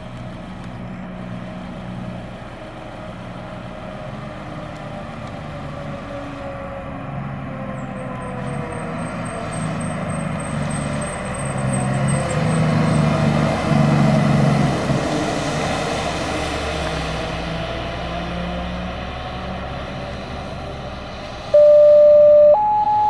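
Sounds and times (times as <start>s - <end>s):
fire truck engine passing: 0.0s - 23.0s.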